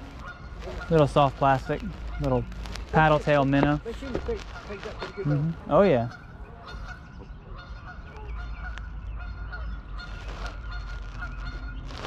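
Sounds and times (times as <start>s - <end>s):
faint background rumble: 0.0s - 12.0s
geese honking: 0.0s - 12.0s.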